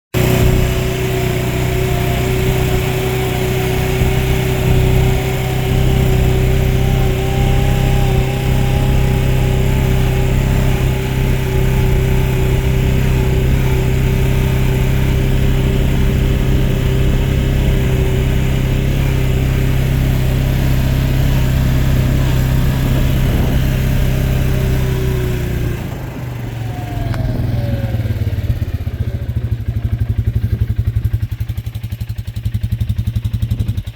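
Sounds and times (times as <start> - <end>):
atv engine running: 0.2 - 33.9.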